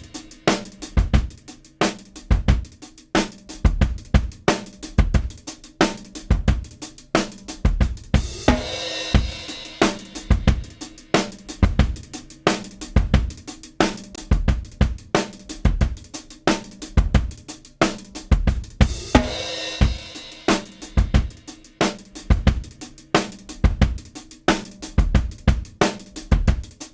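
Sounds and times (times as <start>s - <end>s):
drum kit groove: 0.0s - 26.9s.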